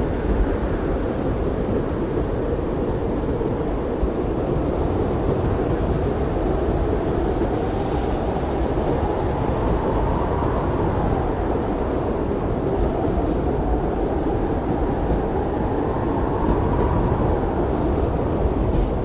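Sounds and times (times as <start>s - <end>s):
blizzard wind roaring: 0.0s - 19.0s.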